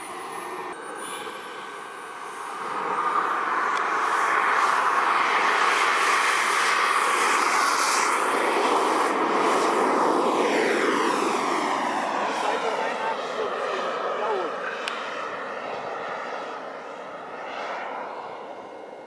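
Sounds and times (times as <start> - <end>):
jet turbine roaring with whine: 0.0 - 19.0.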